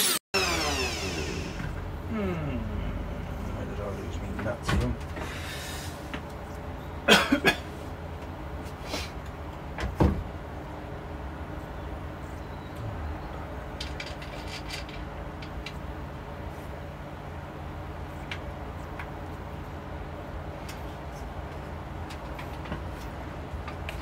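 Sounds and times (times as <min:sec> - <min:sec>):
low steady hum: 0:00.4 - 0:08.6, 0:09.3 - 0:24.0.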